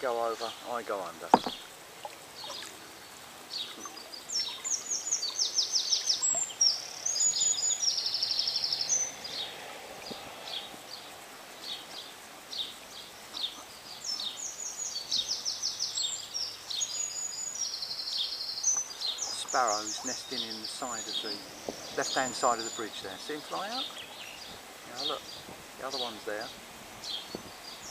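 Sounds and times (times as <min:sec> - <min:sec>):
faint outdoor hiss: 0:00.0 - 0:27.9
songbird trilling: 0:00.1 - 0:27.9.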